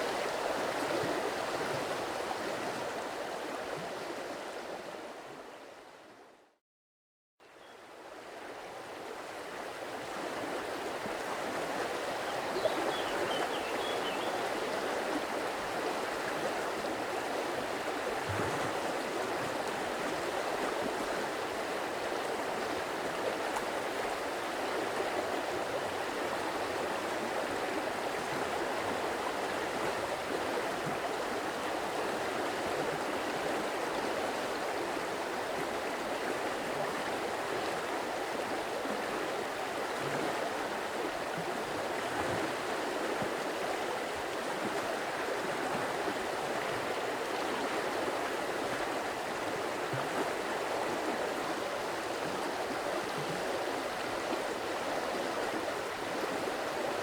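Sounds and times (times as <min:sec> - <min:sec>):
stream flowing: 0:00.0 - 0:06.2, 0:07.8 - 0:57.0
low water gurgles: 0:08.4 - 0:57.0.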